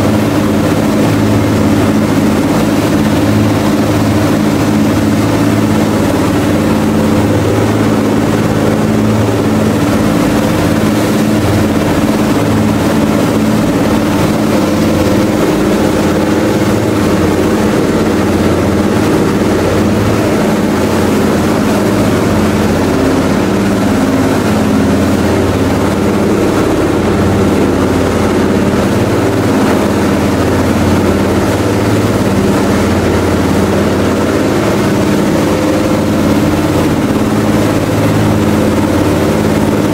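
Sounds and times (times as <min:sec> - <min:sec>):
boat diesel engine droning: 0:00.0 - 0:39.9
rush of boat wake: 0:00.0 - 0:39.9.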